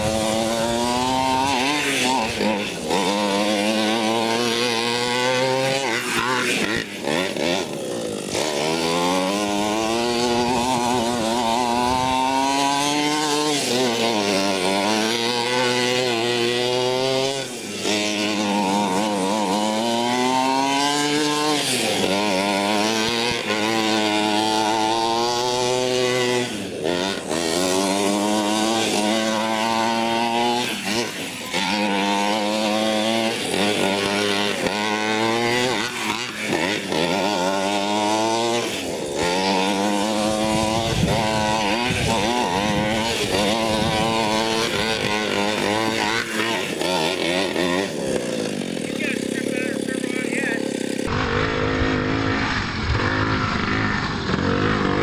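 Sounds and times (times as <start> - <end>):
small two-stroke engine revving: 0.0 - 55.0.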